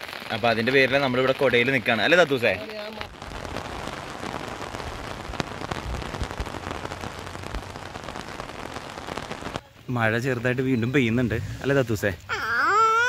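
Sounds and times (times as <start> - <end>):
heavy rain on trees and road: 0.0 - 13.0.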